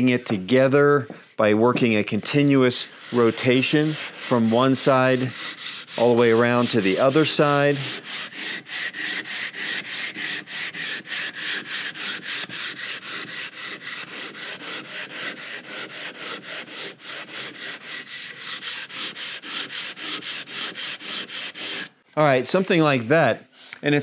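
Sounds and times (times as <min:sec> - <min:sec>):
sandpaper rubbing on wood: 0:01.9 - 0:22.0.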